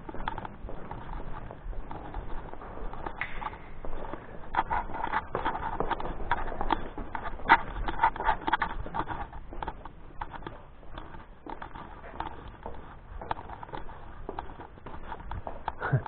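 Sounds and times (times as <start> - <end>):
footsteps on concrete stairs: 0.0 - 16.0.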